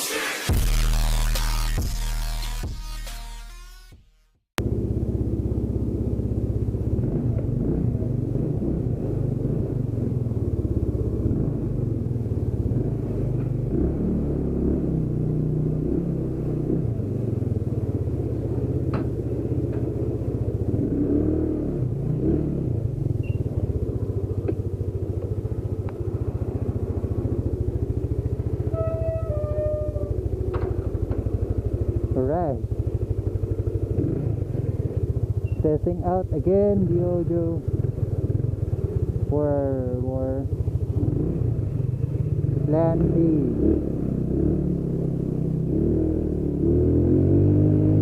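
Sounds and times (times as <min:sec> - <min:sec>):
motorcycle engine running: 0:04.6 - 0:48.0.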